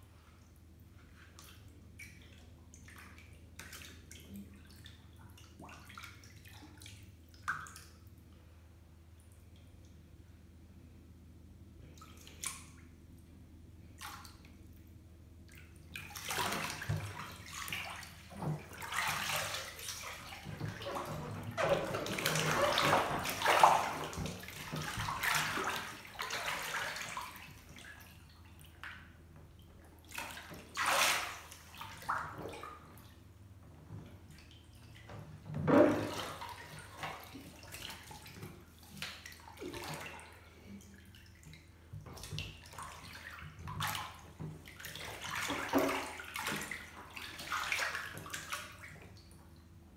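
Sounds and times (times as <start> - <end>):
bathwater sloshing and splashing: 0.0 - 10.2, 11.6 - 49.9.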